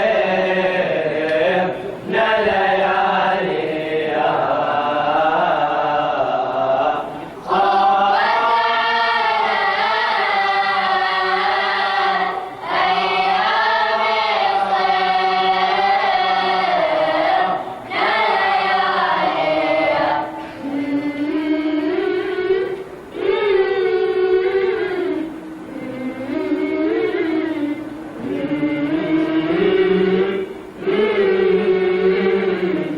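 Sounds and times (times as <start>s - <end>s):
group of voices singing: 0.0s - 32.9s
single voice singing: 0.0s - 32.9s.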